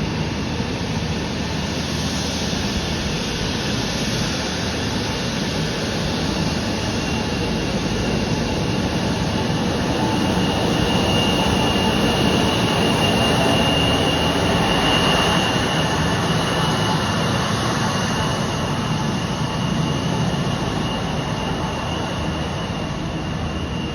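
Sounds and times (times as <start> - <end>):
jet engines whining: 0.0 - 23.9.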